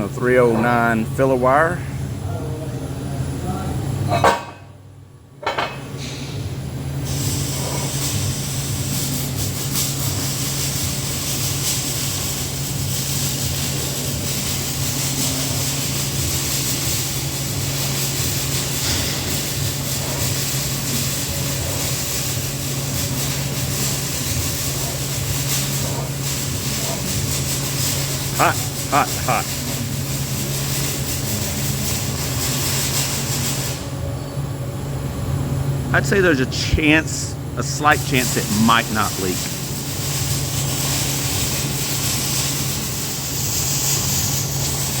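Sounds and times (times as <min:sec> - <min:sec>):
welding arc buzzing: 0:07.0 - 0:34.0, 0:35.6 - 0:45.0
welding machine hum: 0:07.0 - 0:34.0, 0:34.8 - 0:45.0.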